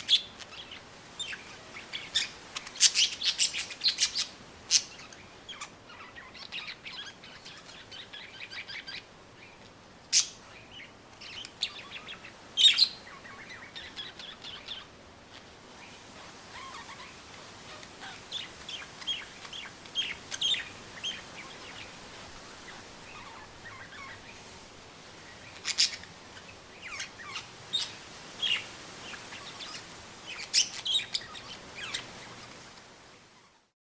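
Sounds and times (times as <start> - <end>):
budgerigars chirping: 0.0 - 22.0, 22.7 - 24.5, 25.3 - 32.3
wind through trees: 0.0 - 33.8.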